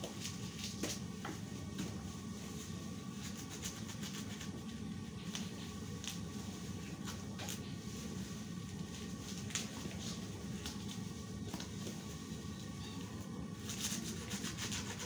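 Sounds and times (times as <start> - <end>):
pot boiling with low rumble: 0.0 - 15.0.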